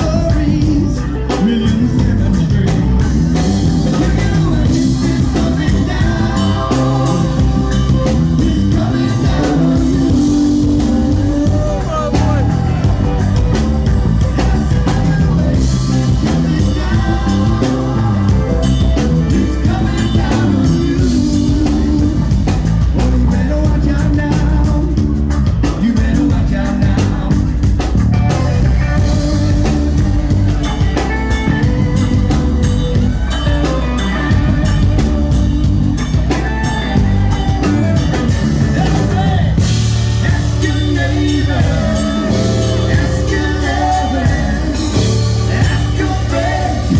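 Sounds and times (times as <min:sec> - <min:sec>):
rock band playing with singer: 0:00.0 - 0:46.9.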